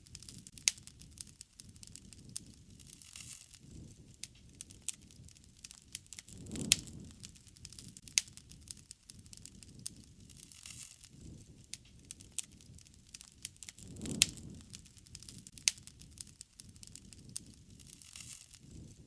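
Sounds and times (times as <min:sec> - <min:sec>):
campfire crackling: 0:00.0 - 0:19.0
low rumble of flames: 0:00.0 - 0:19.0
sharp pops of burning wood: 0:00.0 - 0:19.0.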